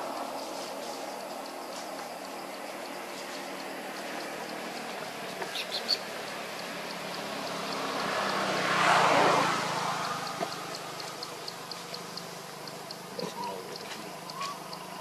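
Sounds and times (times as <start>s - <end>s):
faint high ticking: 0.0s - 15.0s
motor vehicle passing: 0.0s - 15.0s.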